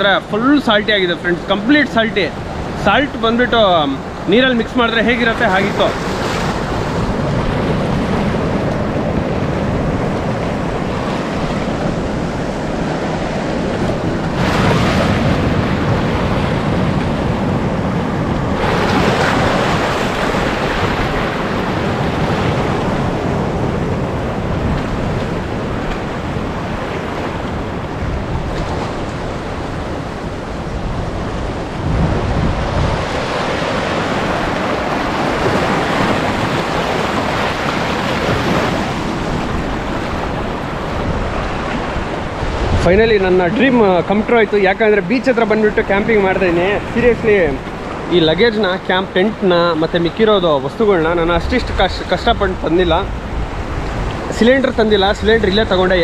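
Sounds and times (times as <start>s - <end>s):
sea surf breaking: 0.0s - 56.0s
wind buffeting microphone: 0.0s - 56.0s.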